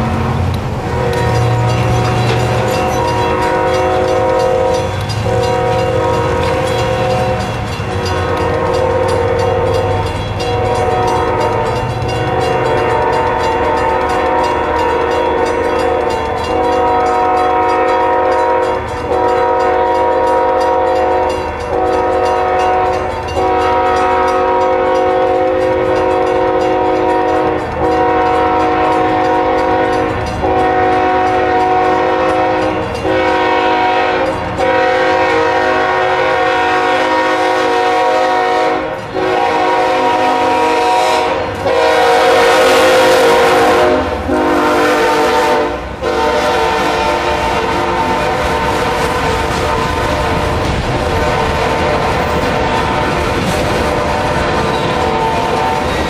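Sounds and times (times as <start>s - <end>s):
locomotive horn chime blasts: 0.8s - 56.0s.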